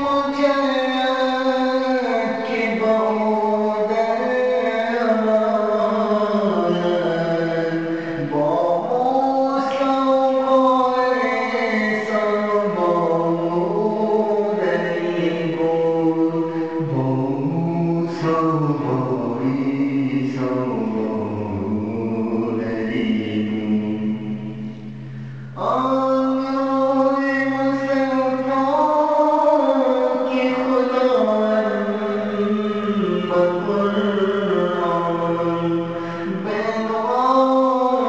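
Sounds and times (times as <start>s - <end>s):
devotional vocal chanting: 0.0s - 38.0s
steady low tone: 1.4s - 38.0s.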